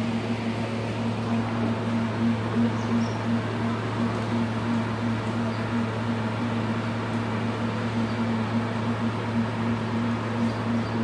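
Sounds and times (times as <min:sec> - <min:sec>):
machine humming with fluttering tone: 0:00.0 - 0:11.0.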